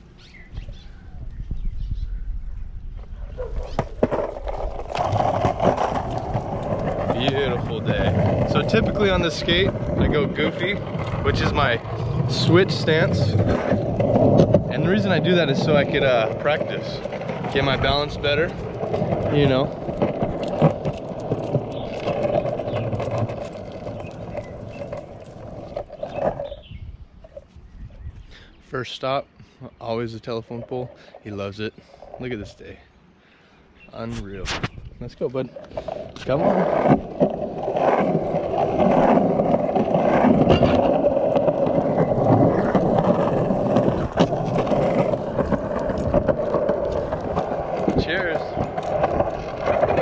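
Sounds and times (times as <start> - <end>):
skateboard wheels rolling on concrete: 0.0 - 32.9, 33.9 - 50.0.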